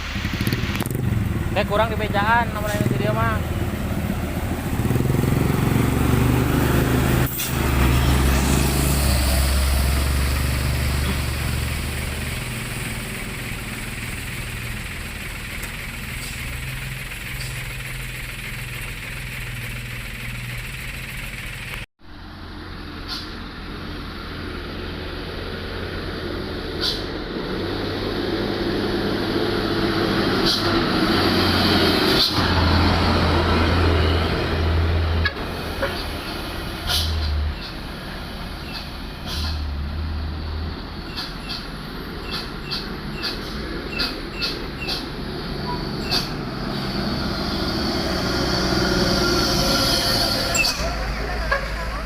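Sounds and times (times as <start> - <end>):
diesel truck engines rumbling: 0.0 - 52.0.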